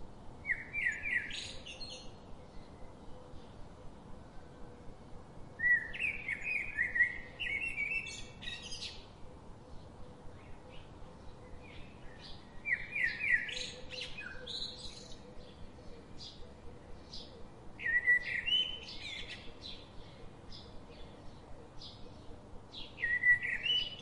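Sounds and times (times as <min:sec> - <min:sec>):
outdoor background noise: 0:00.0 - 0:24.0
songbird chirping: 0:00.0 - 0:24.0.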